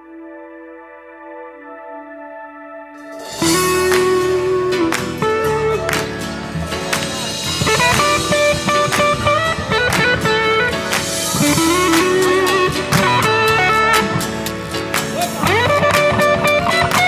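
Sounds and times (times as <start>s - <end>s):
guitar tune over a beat: 3.1s - 17.0s.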